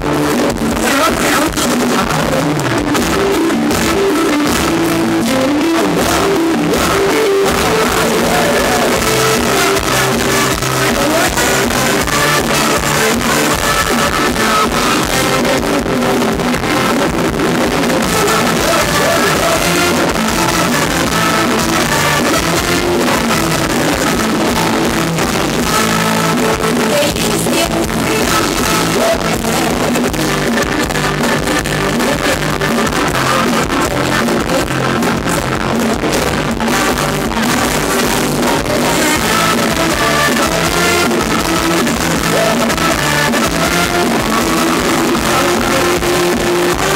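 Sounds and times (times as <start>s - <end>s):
electric guitar: 0.0s - 46.9s
live dance music over loudspeakers: 0.0s - 46.9s
person singing: 0.0s - 46.9s.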